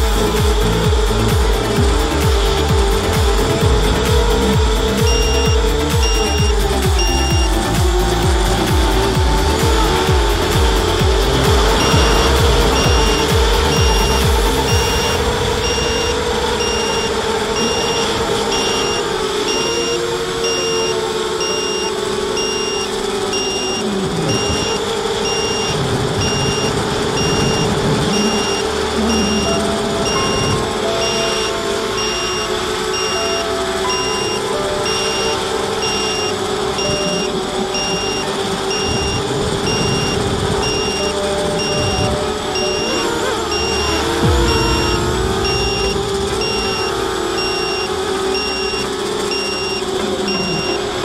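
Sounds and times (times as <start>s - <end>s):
quadcopter motors whining: 0.0s - 51.0s
short high electronic beep: 0.0s - 51.0s.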